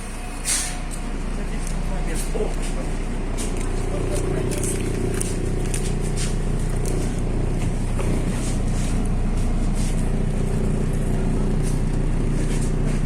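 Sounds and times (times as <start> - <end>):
bus engine running: 0.0 - 13.0.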